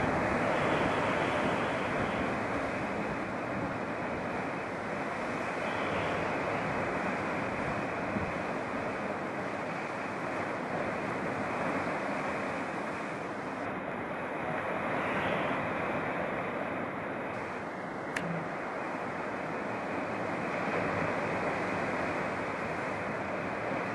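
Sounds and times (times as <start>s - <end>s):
surf breaking over rocks: 0.0s - 23.9s.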